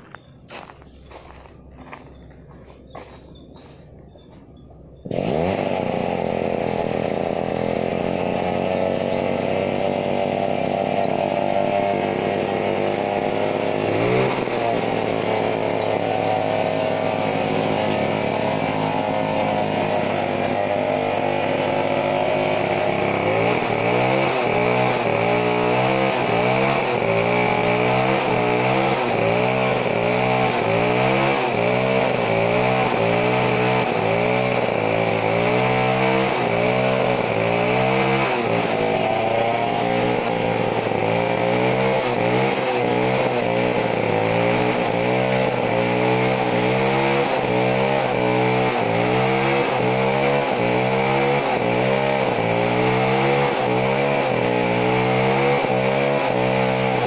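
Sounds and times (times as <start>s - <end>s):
chainsaw engine running: 0.0s - 57.0s.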